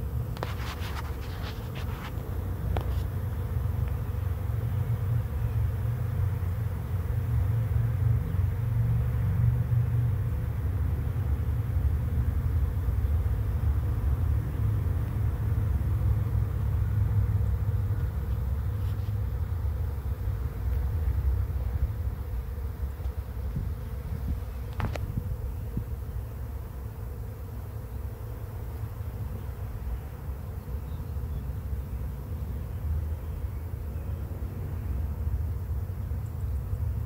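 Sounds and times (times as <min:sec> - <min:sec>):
bees humming: 0:00.0 - 0:37.0.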